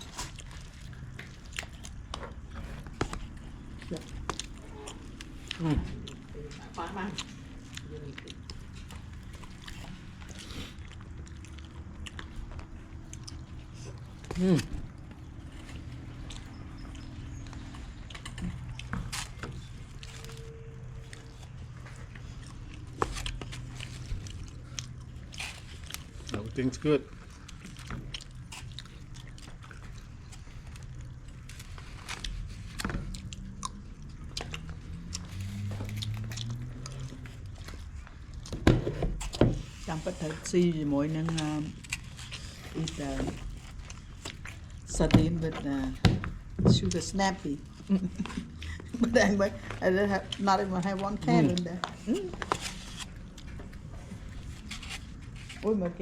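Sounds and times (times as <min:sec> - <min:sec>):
person chewing and crunching: 0:00.0 - 0:55.7
low steady hum: 0:00.0 - 0:56.0.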